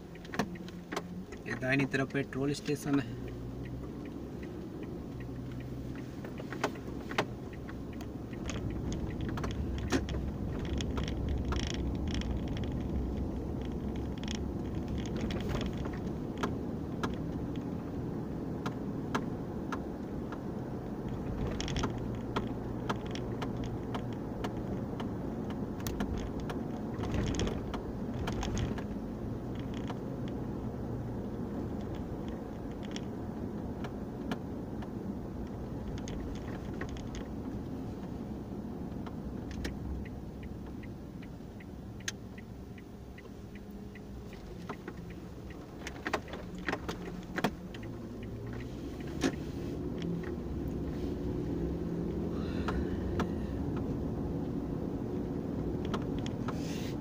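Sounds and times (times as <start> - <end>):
small clicks and rattles: 0.0 - 38.2, 38.8 - 56.6
car engine and tyres rumbling: 0.0 - 57.0.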